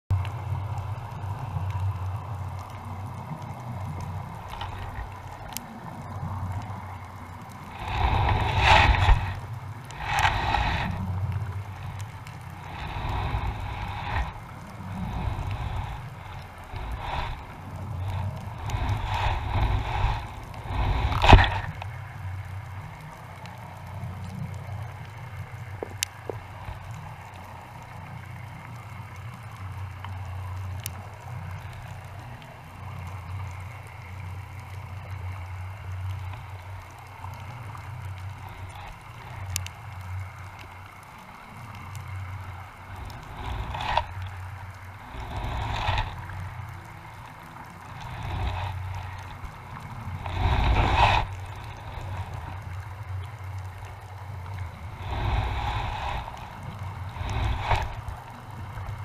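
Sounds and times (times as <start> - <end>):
gurgling water: 0.1 - 59.0
muffled underwater rumble: 0.1 - 59.0.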